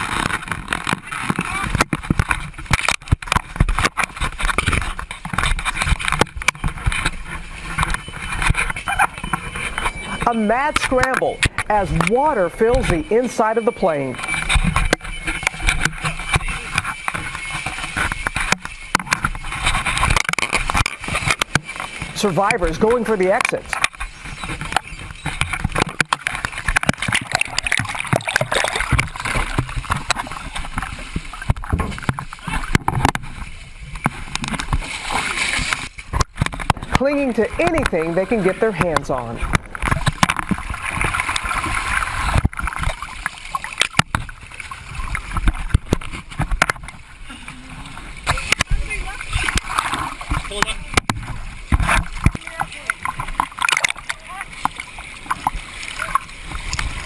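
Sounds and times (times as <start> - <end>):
water sloshing and splashing: 0.0 - 57.0.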